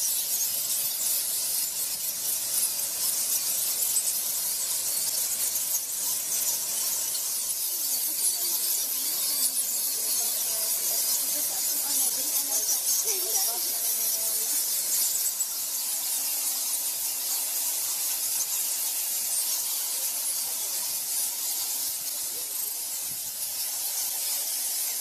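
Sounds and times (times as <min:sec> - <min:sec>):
bats squeaking: 0:00.0 - 0:25.0.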